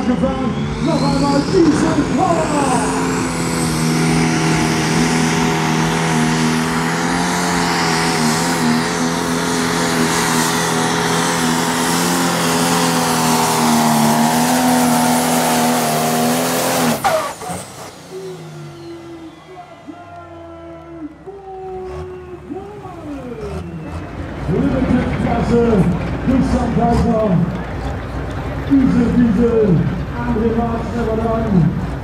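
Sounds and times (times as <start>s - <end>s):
diesel engine droning under load: 0.0s - 32.0s.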